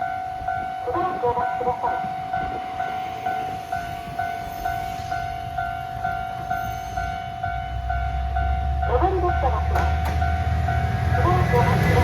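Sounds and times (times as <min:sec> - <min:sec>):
diesel railcar engine rumble: 0:00.0 - 0:12.0
level crossing warning bell: 0:00.0 - 0:12.0.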